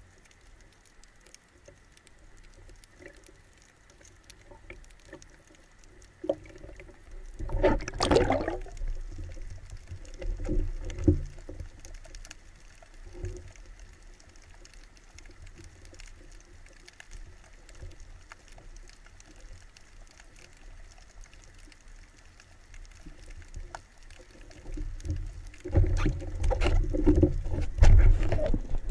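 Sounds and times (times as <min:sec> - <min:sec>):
light ticks: 0:00.0 - 0:07.6, 0:08.6 - 0:28.4
low underwater rumble: 0:00.0 - 0:28.9.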